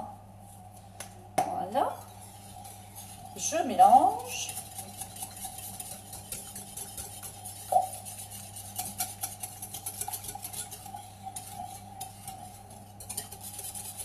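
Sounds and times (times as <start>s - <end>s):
faint steady hum: 0.0s - 14.0s
whisk clicking against glass bowl: 2.6s - 14.0s.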